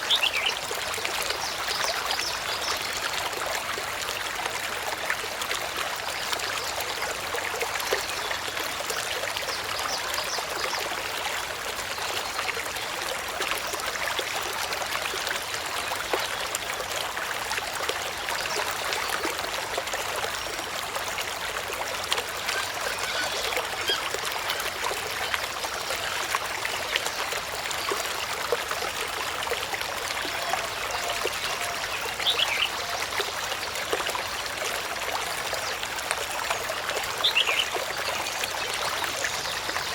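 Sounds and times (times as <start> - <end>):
water trickling with splashes: 0.0 - 39.9.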